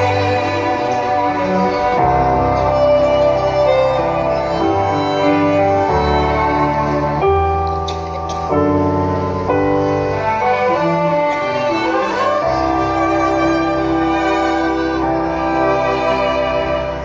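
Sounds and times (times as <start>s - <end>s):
slow violin and piano music: 0.0s - 17.0s.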